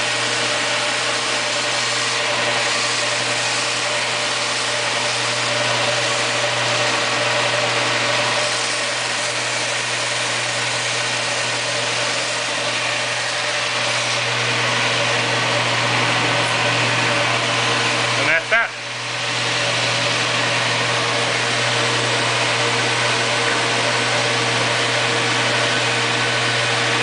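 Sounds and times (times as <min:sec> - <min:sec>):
sander humming and hissing: 0:00.0 - 0:27.0.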